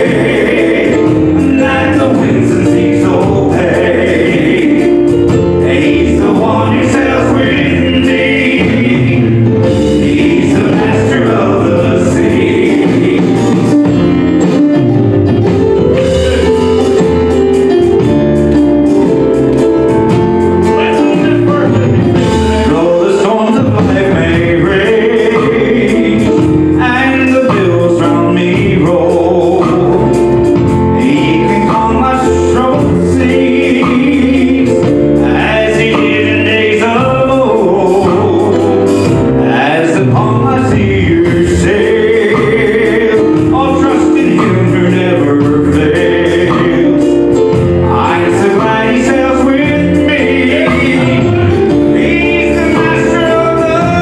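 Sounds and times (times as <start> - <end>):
men singing in harmony: 0.0 - 14.5, 20.4 - 54.0
acoustic guitar: 0.0 - 54.0
drums: 0.0 - 54.0
keyboard: 0.0 - 54.0.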